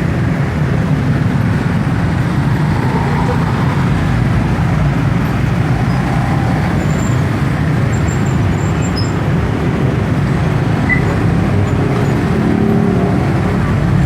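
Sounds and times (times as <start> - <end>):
dense road traffic drone: 0.0 - 14.0.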